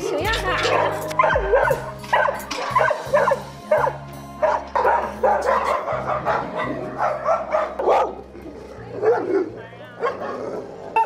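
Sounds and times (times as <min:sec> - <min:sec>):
background music with low notes: 0:00.0 - 0:11.0
dogs barking: 0:00.0 - 0:11.0.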